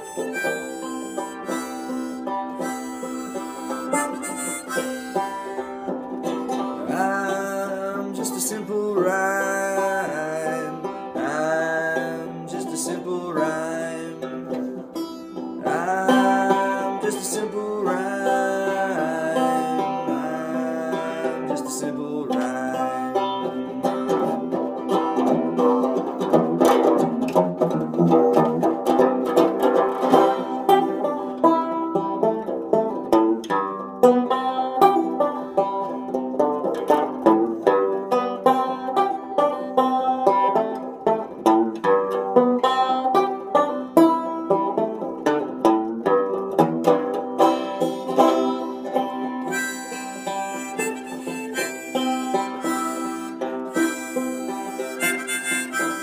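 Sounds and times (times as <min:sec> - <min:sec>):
harmonica melody: 0:00.0 - 0:26.2, 0:29.2 - 0:32.2, 0:37.6 - 0:44.8, 0:47.4 - 0:56.0
banjo strumming: 0:00.0 - 0:56.0.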